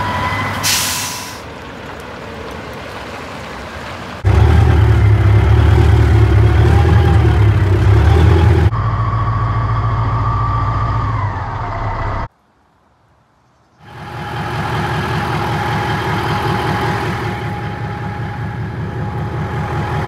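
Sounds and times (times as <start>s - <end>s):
diesel truck engine running: 0.0s - 12.3s, 13.8s - 20.0s.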